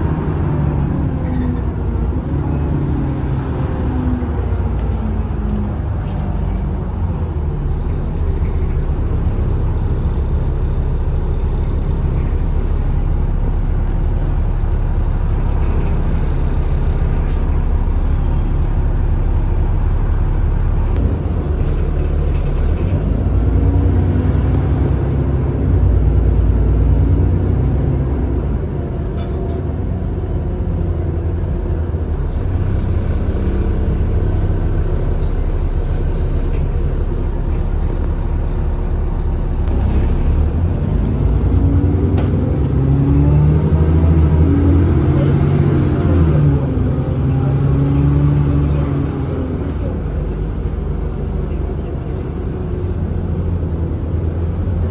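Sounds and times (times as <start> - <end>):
bus engine rumble: 0.0 - 54.9
high whine from bus: 0.0 - 54.9.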